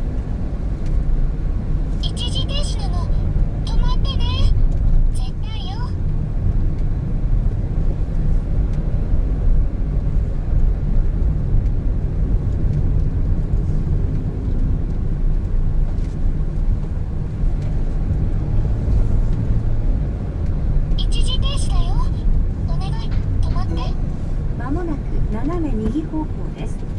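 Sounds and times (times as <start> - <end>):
car road and engine rumble: 0.0 - 26.9.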